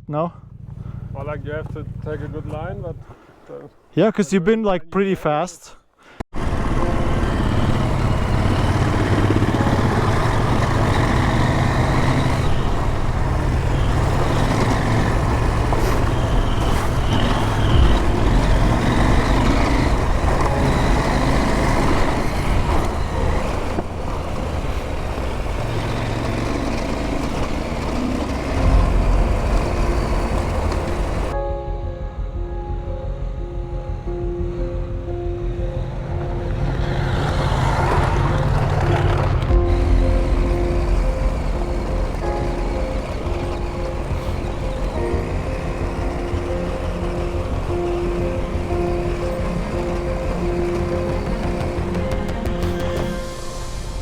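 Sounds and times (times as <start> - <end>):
motorcycle engine running: 0.0 - 3.3, 6.3 - 54.0.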